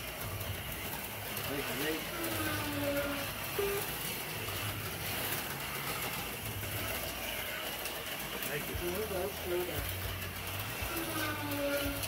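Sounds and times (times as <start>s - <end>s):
slot car motors whirring: 0.0s - 12.0s.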